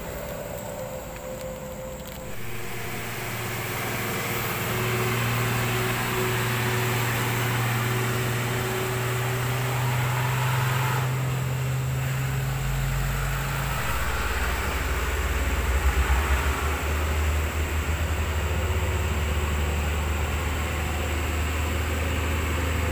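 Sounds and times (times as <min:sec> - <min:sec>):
diesel trucks passing: 0:00.0 - 0:22.9
truck engine pulsing throb: 0:00.0 - 0:22.9.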